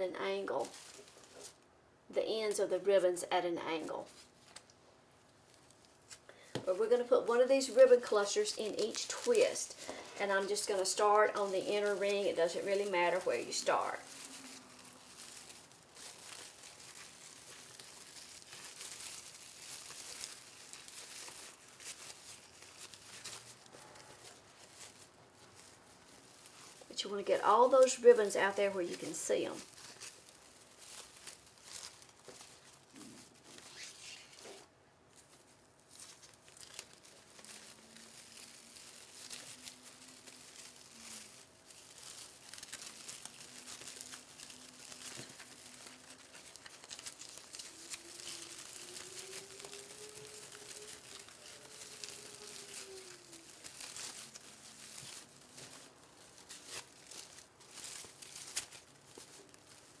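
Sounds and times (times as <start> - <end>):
ribbon and mesh rustling: 0.0 - 1.6, 2.2 - 60.0.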